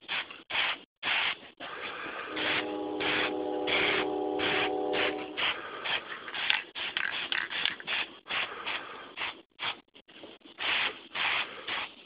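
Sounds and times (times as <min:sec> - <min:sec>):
spray paint hissing in bursts: 0:00.0 - 0:09.9, 0:10.5 - 0:12.0.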